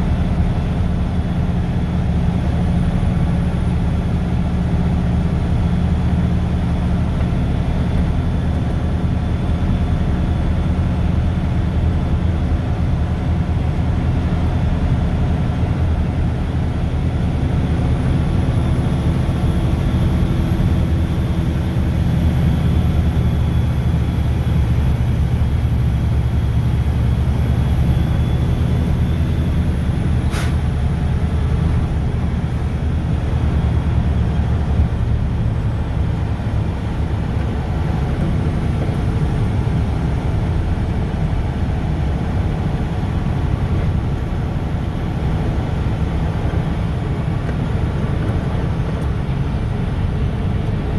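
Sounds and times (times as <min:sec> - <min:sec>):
diesel truck engine running: 0:00.0 - 0:50.9
road noise: 0:00.0 - 0:50.9.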